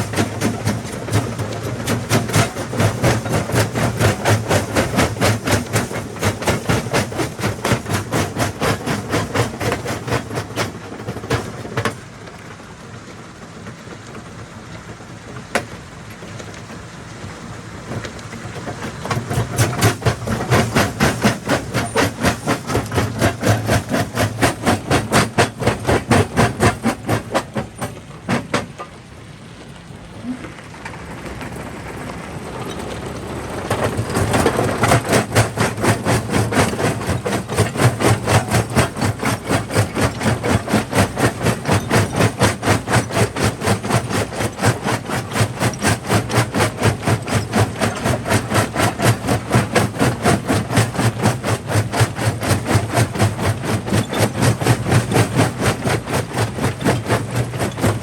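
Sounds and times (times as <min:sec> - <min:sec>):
jaw crusher crushing rock: 0:00.0 - 0:12.0, 0:18.2 - 0:28.9, 0:33.7 - 0:58.0.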